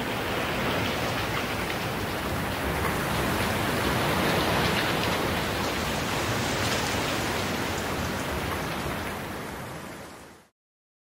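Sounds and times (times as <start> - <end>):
rain and wet road hiss: 0.0 - 10.5.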